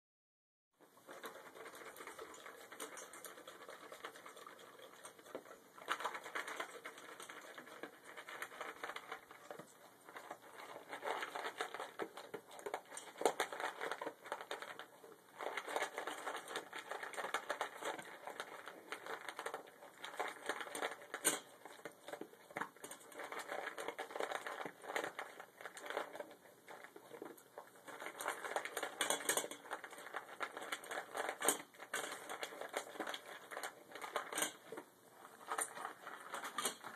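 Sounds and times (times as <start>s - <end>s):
dog crunching kibble: 1.0s - 36.9s.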